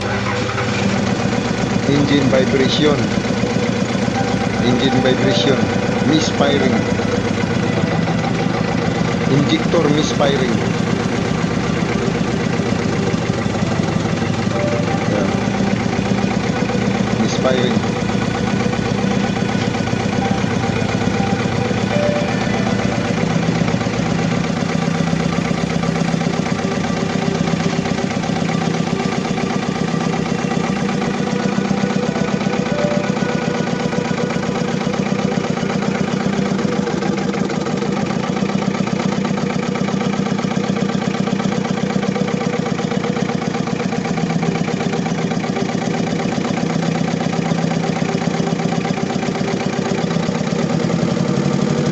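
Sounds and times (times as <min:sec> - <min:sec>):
diesel engine idling with misfire: 0:00.0 - 0:51.9.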